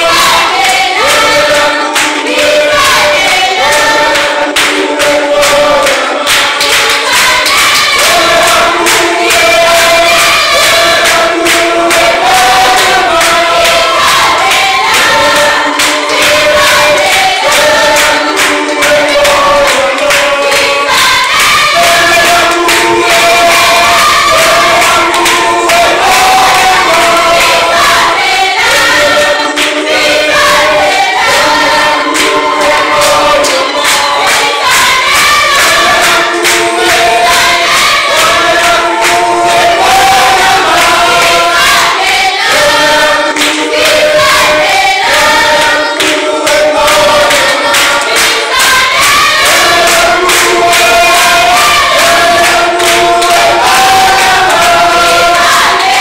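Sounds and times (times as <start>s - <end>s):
congregation singing in chorus: 0.0s - 56.0s
sharp percussive hits: 0.0s - 56.0s.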